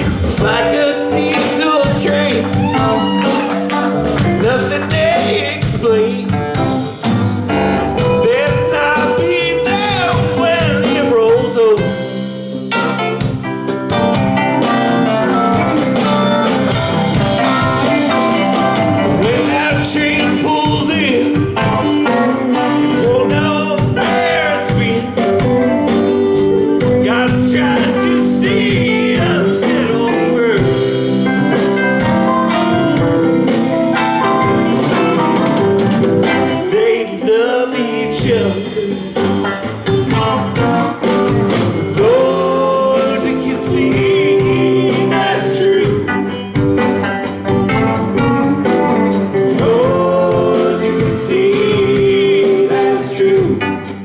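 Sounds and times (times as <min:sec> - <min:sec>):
bass guitar: 0:00.0 - 0:54.0
drums: 0:00.0 - 0:54.0
electric guitars: 0:00.0 - 0:54.0
keyboards: 0:00.0 - 0:54.0.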